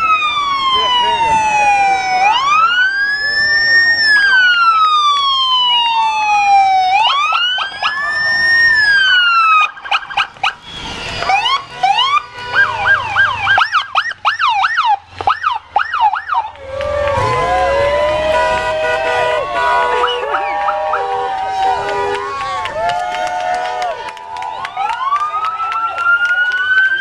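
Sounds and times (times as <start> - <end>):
siren fast yelp: 0.0 - 10.6, 11.2 - 22.4
siren wailing: 0.0 - 27.0.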